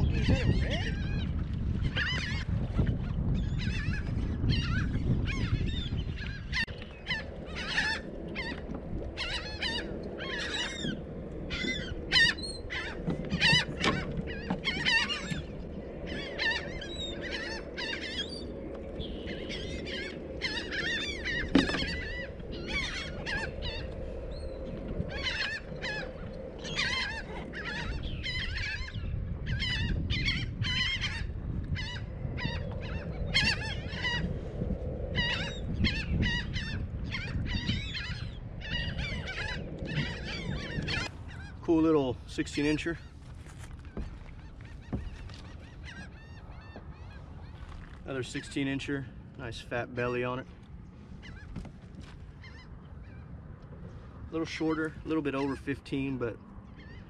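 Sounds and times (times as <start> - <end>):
seabirds calling: 0.0 - 57.0.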